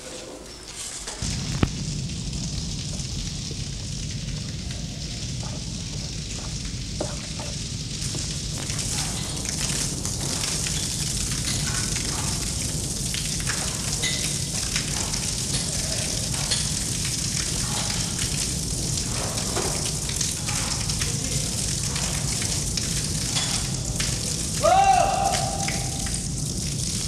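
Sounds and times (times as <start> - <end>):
water running in a tunnel: 0.0 - 27.0
water drips: 0.1 - 27.0.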